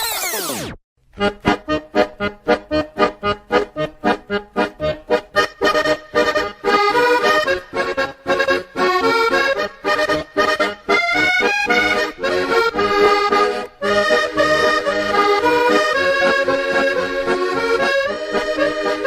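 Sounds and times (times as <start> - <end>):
lively accordion music: 1.2 - 19.0.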